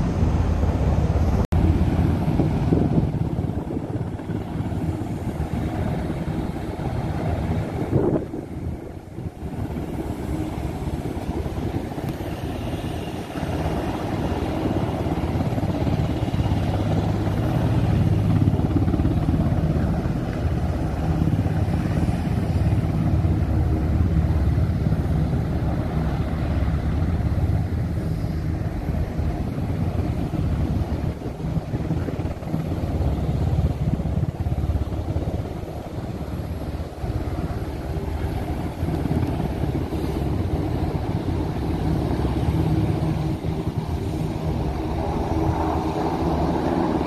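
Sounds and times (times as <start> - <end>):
helicopter rotor and turbine drone: 0.0 - 47.0.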